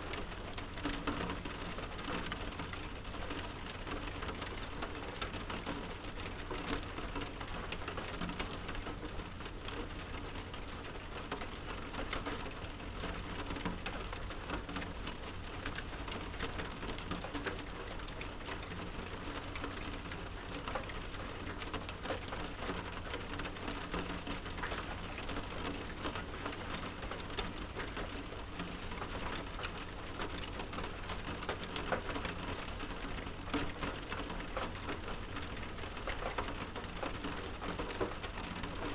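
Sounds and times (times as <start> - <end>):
rain pattering on a window: 0.0 - 38.9.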